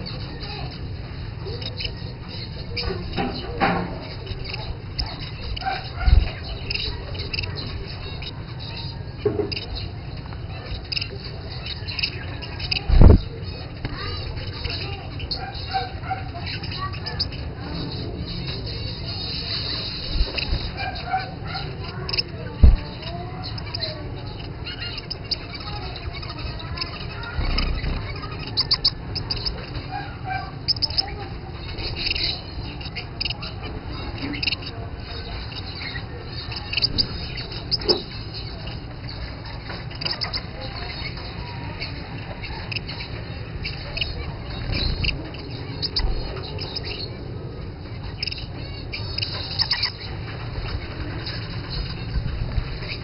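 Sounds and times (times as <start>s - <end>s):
finches chirping: 0.0s - 53.0s
steady low rumble: 3.9s - 15.1s, 17.4s - 37.8s, 38.4s - 53.0s.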